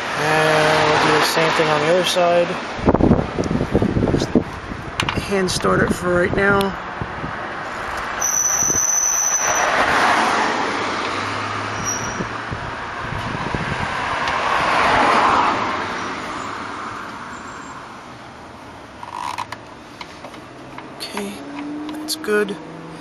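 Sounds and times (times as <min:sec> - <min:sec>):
passing road traffic: 0:00.0 - 0:23.0.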